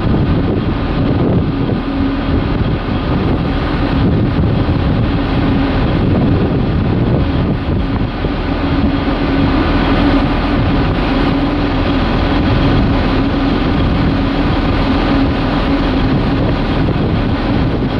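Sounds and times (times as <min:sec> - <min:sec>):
boat engine humming: 0:00.0 - 0:17.9
water churning along hull: 0:00.0 - 0:17.9.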